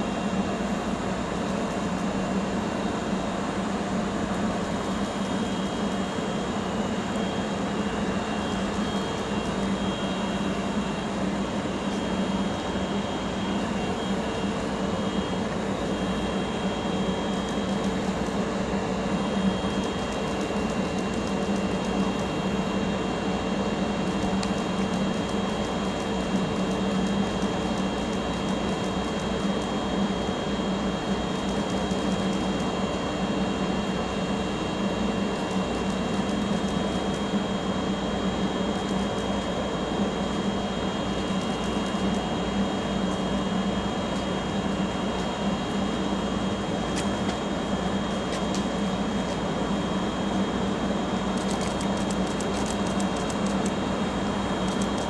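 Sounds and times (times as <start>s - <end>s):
high-pitched whine: 0.0s - 55.0s
idling train low drone: 0.0s - 55.0s.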